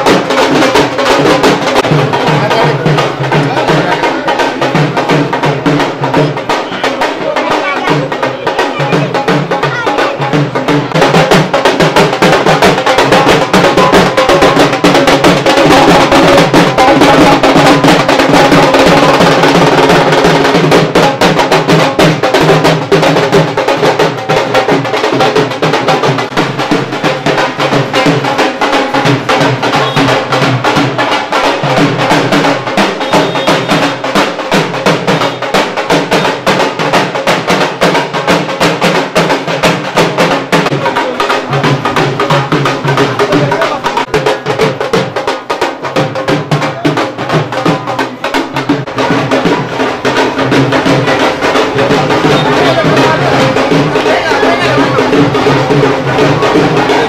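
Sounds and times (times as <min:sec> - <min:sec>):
fast dense drumming: 0:00.0 - 0:57.0.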